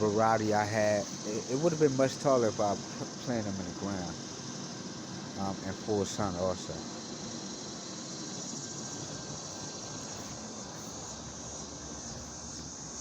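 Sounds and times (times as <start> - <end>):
insect chorus trilling: 0.0 - 13.0
low steady hum: 0.0 - 13.0.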